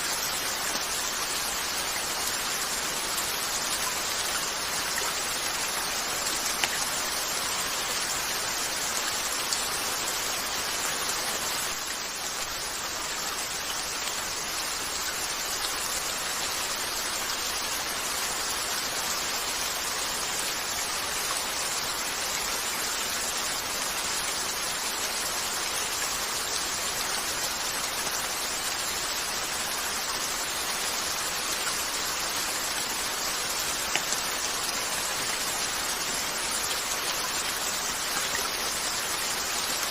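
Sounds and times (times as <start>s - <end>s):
rain falling on a window: 0.0s - 39.9s.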